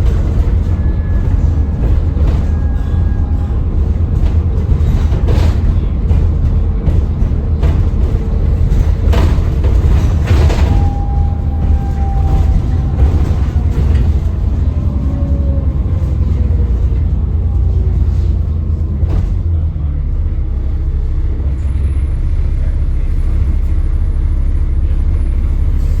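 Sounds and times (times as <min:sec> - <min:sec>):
bus engine rumbling: 0:00.0 - 0:26.0.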